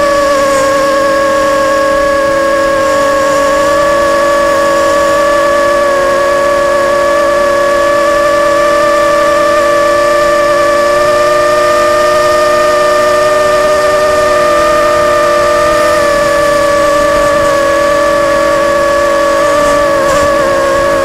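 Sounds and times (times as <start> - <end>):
drone propellers whining: 0.0 - 21.0
rush of propeller air: 0.0 - 21.0.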